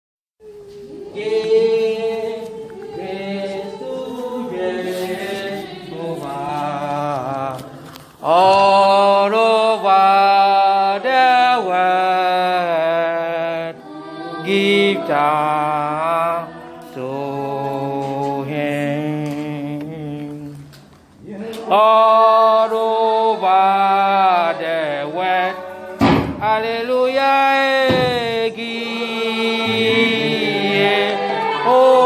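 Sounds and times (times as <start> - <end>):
person singing unaccompanied: 0.4 - 32.0.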